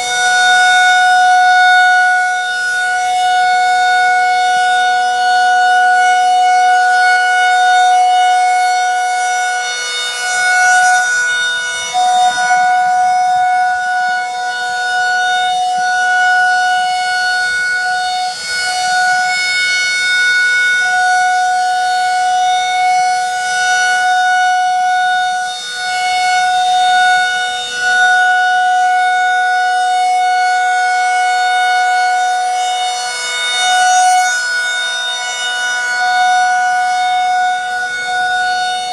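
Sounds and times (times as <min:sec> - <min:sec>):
warning siren steady dual-tone: 0:00.0 - 0:38.9.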